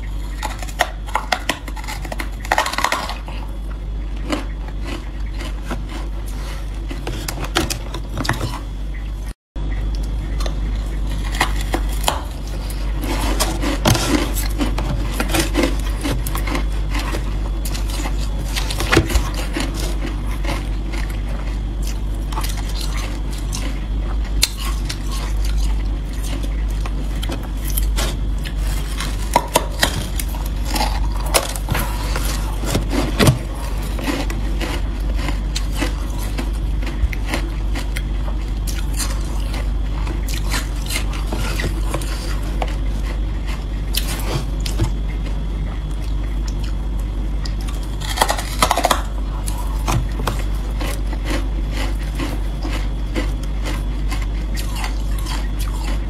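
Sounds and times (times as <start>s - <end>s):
ice crunching and chewing: 0.0s - 8.7s, 9.9s - 56.0s
steady low hum: 0.0s - 56.0s.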